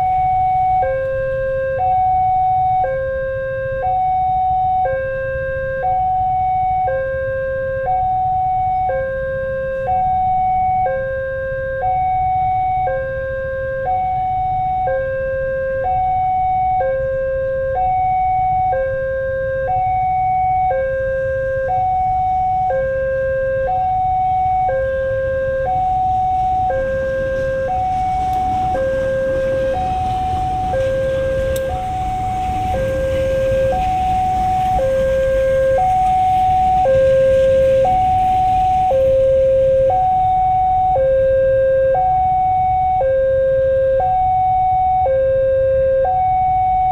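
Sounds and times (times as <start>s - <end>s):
low rumble of engines: 0.0s - 46.9s
two-tone warning siren: 0.0s - 46.9s.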